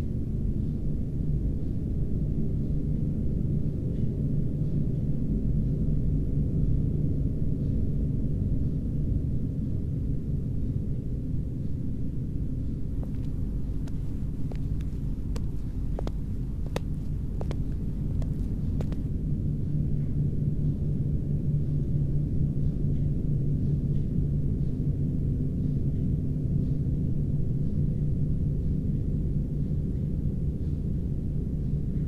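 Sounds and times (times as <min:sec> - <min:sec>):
low rumbling drone: 0:00.0 - 0:32.0.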